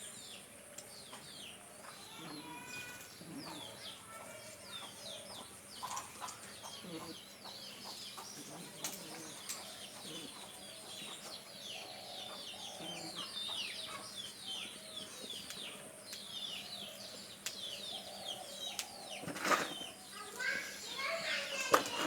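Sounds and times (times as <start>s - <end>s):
low clucking bird calls: 0.0s - 20.5s
birds chirping: 0.0s - 22.0s.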